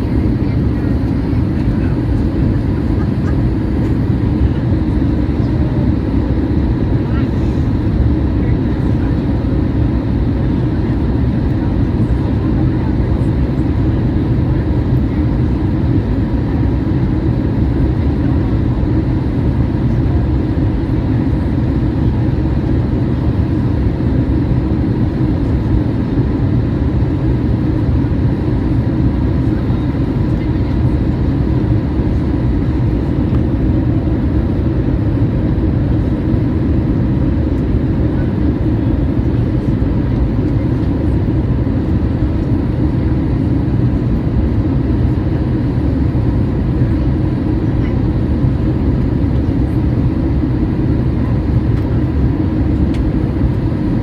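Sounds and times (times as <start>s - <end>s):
airplane engines droning in cabin: 0.0s - 54.0s.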